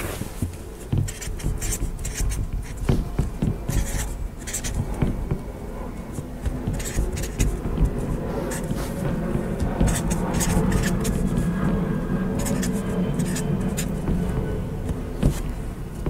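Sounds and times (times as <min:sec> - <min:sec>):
low steady rumble: 0:00.0 - 0:16.0
marker squeaking on board: 0:00.4 - 0:16.0.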